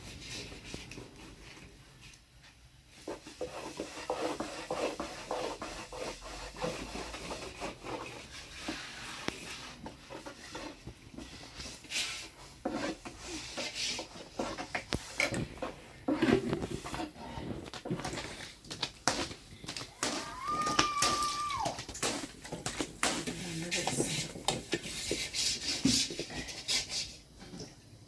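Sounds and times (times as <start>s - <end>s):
rubbing and scraping: 0.0s - 27.8s.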